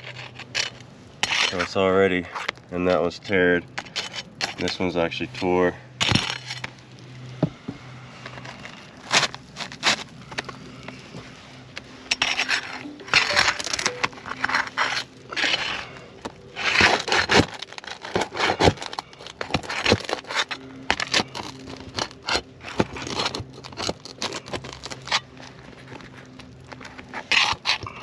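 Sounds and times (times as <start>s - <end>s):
shingles tearing: 0.0s - 7.4s, 8.1s - 28.0s
roof shingles scraping and crackling: 0.0s - 28.0s.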